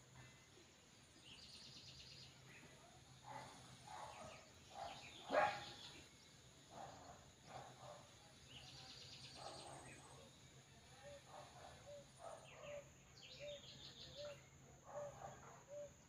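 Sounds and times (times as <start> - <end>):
birds calling: 1.1 - 16.0.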